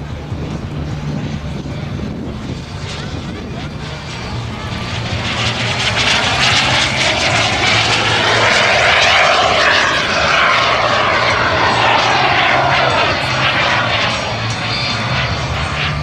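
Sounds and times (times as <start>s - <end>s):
small jet engine flyby: 0.0s - 16.0s.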